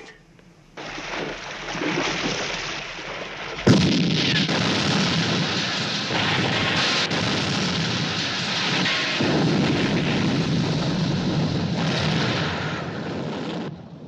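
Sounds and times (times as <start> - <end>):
rumble of fire and debris: 0.7 - 14.0
loud explosion blast: 0.8 - 14.0.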